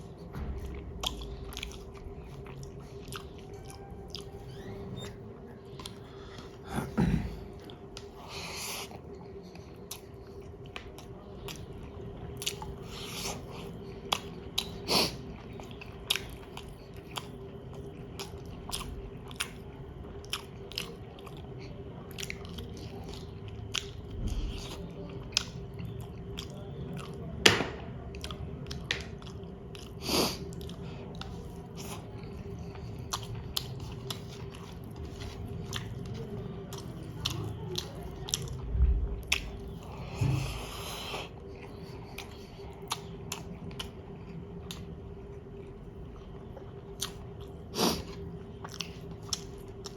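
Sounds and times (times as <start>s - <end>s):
faint steady hum: 0.0s - 49.9s
chewing with wet mouth clicks: 0.1s - 6.6s, 7.6s - 38.6s, 39.2s - 49.9s.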